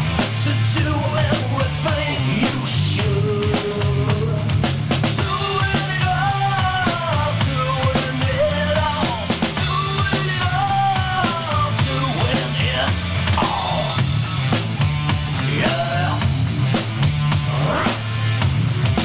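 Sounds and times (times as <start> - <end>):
rock music: 0.0 - 19.0.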